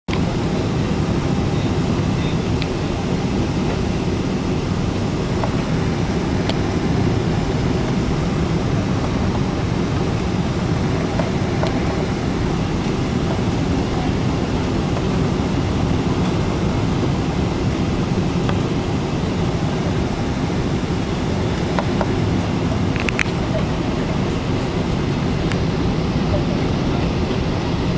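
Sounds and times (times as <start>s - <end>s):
jet airliner rumble: 0.1s - 27.9s.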